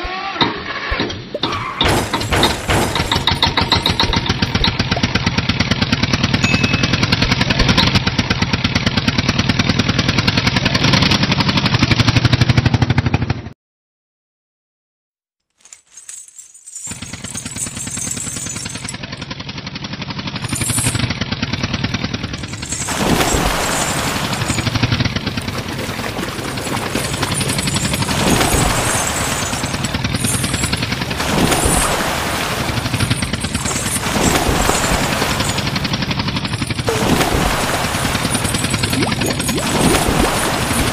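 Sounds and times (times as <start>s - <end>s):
tractor engine chugging: 1.4s - 12.2s, 17.0s - 40.9s.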